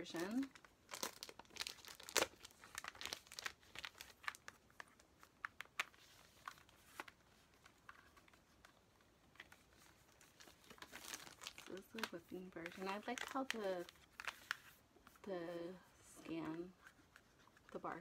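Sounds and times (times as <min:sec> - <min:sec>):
plastic wrapping crinkling and tearing: 0:00.0 - 0:15.6.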